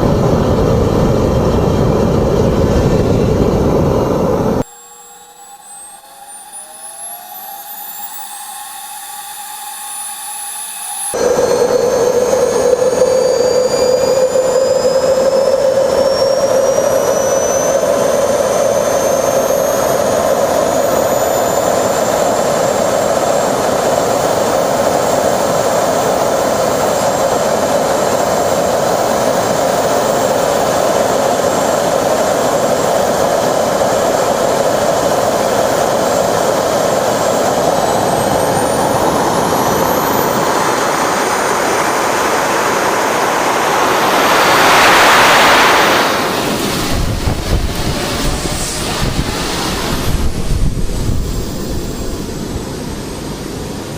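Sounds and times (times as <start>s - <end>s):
jet turbine engine whining: 0.0s - 53.9s.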